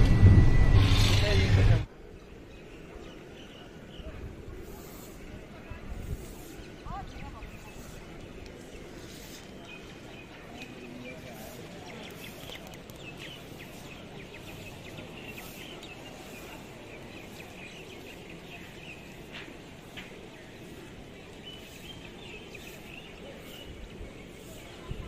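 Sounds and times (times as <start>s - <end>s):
outdoor ambient noise: 0.0s - 25.0s
small birds chirping: 2.0s - 25.0s.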